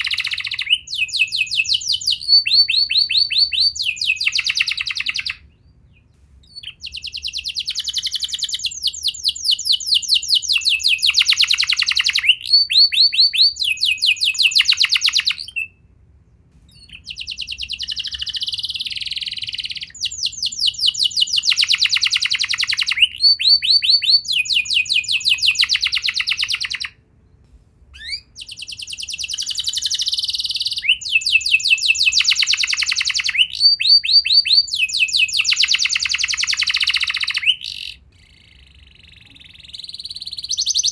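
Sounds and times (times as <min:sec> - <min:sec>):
canary singing trills: 0:00.0 - 0:15.8, 0:16.7 - 0:27.0, 0:27.9 - 0:40.9.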